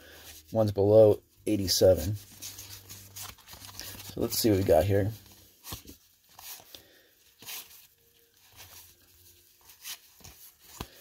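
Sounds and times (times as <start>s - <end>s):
cards flicking and rustling: 2.0s - 11.0s.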